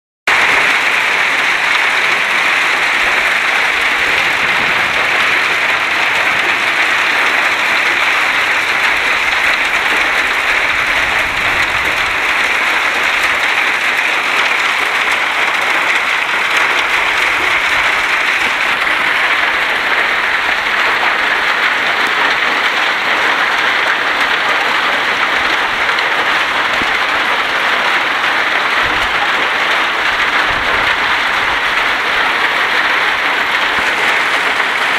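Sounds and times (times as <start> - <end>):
hail and rain pattering on ground: 0.3 - 34.9.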